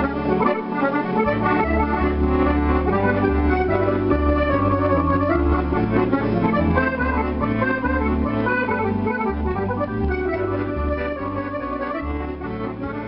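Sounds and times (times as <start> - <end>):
electronic accordion playing a tune: 0.0 - 13.0.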